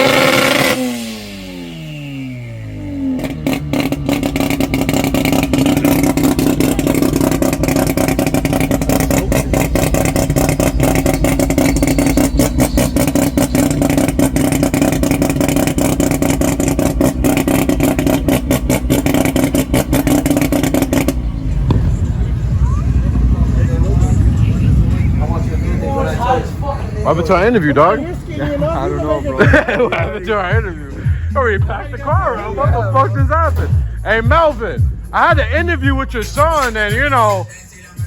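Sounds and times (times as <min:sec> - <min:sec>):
race car engine idling unevenly: 0:00.0 - 0:38.0.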